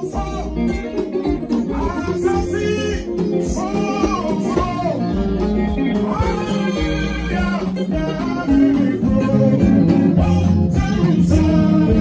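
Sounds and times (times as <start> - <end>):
man singing into microphone: 0.0 - 5.2, 6.0 - 12.0
drums: 0.0 - 12.0
electric guitar: 0.0 - 12.0
keyboard: 0.0 - 12.0.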